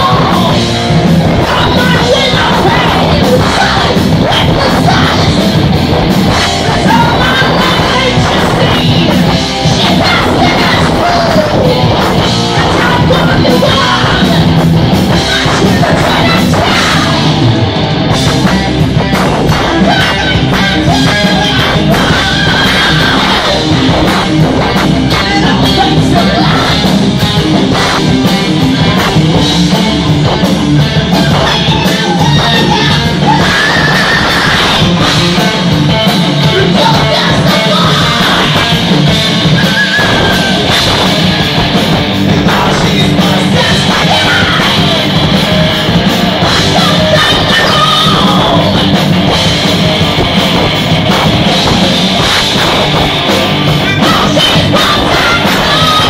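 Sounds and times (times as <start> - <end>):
person singing and yelling: 0.0 - 17.6, 19.2 - 29.4, 30.8 - 50.0, 51.1 - 56.0
heavy metal band playing: 0.0 - 56.0.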